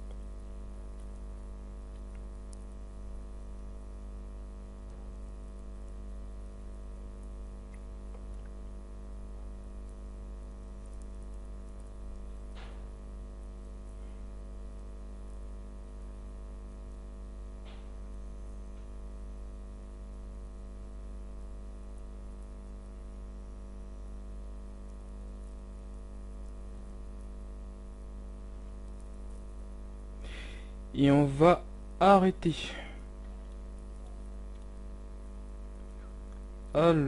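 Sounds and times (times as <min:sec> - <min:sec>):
electrical hum with overtones: 0:00.0 - 0:37.0.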